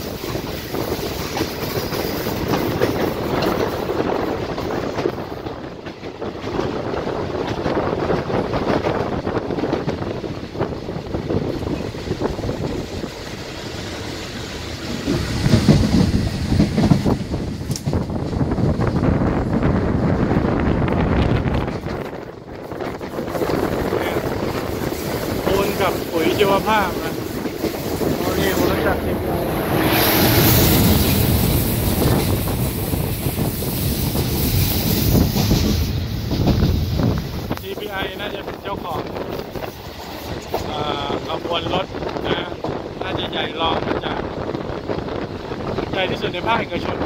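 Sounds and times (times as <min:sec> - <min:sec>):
train wheels rumbling on rails: 0:00.0 - 0:47.0
wind buffeting microphone: 0:00.0 - 0:47.0.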